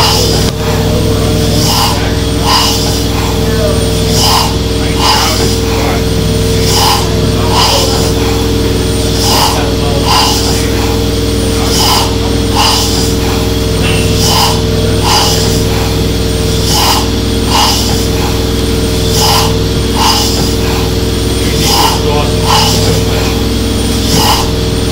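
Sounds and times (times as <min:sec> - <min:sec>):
steam engine running: 0:00.0 - 0:24.9.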